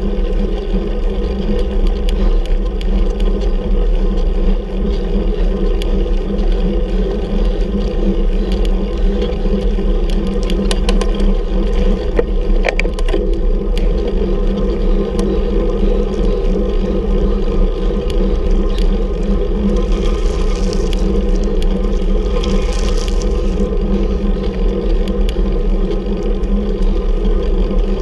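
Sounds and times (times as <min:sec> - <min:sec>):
wind and road noise: 0:00.0 - 0:28.0.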